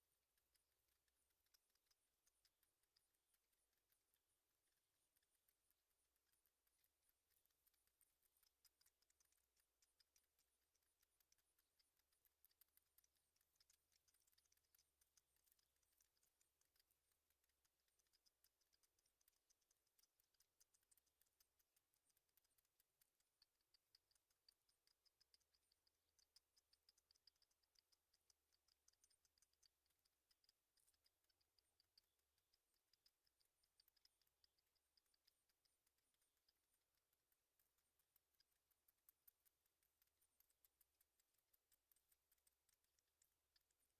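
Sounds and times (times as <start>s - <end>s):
faint high-pitched ticking: 0.0s - 43.9s.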